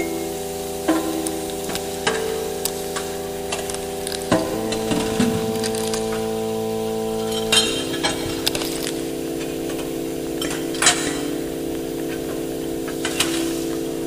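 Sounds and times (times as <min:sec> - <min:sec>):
electronic drone chord: 0:00.0 - 0:14.0.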